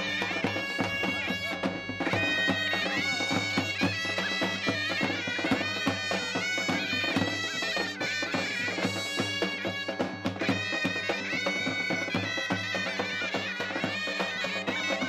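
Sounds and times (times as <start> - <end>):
bagpipe melody with drone: 0.0 - 15.0
drum beating: 0.0 - 15.0.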